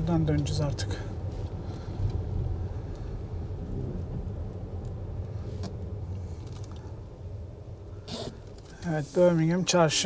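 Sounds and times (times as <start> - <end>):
car driving rumble inside cabin: 0.0 - 10.0.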